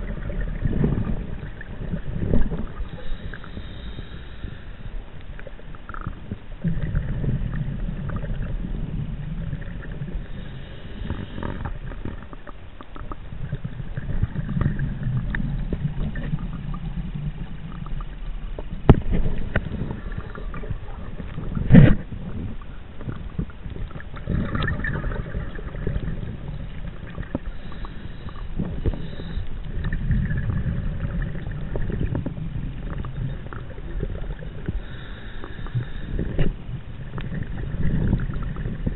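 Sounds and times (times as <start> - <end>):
underwater exhale bubble bursts: 0.0 - 4.6, 5.9 - 38.9.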